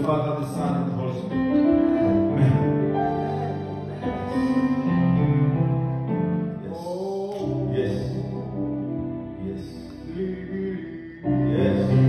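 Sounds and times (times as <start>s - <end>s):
slow music of held chords: 0.0s - 12.0s.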